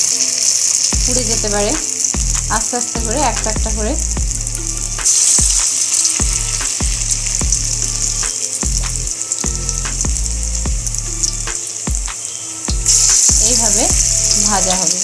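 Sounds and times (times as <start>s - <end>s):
fritters sizzling in hot oil: 0.0s - 15.0s.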